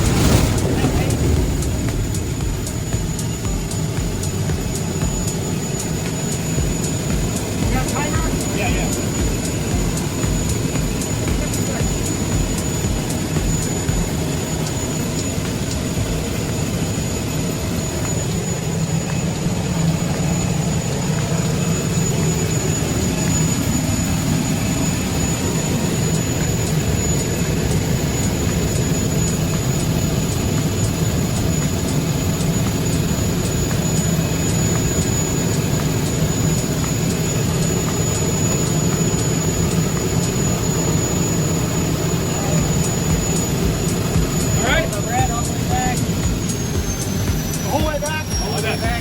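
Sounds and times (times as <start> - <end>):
turboprop engine whining: 0.0 - 49.0.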